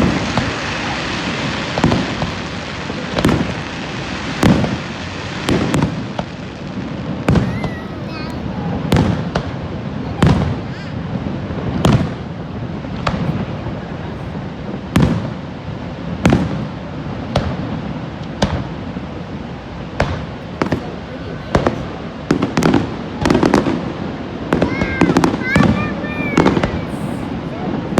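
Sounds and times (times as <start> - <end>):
fireworks bangs: 0.0 - 27.9.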